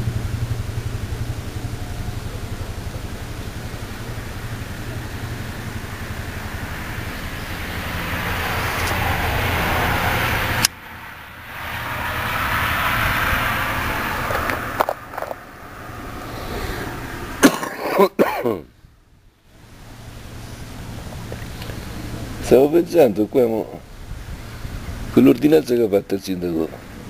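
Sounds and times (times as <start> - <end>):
rushing engine noise: 0.0 - 27.0.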